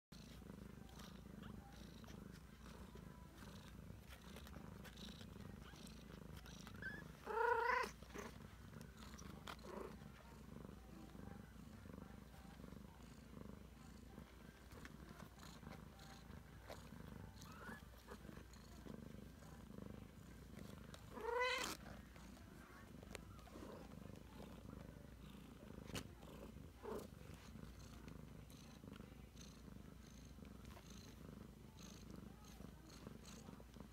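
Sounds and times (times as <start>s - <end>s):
cat purring: 0.1s - 33.9s.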